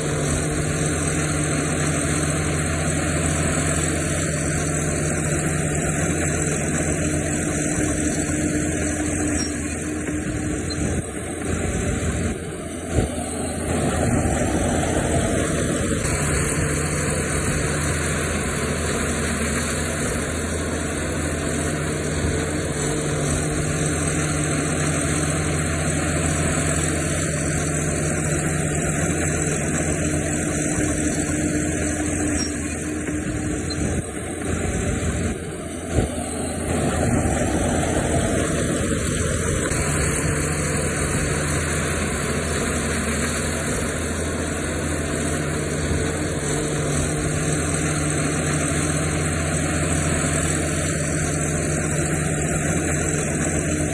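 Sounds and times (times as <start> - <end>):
diesel earthmoving machinery running: 0.0 - 53.9.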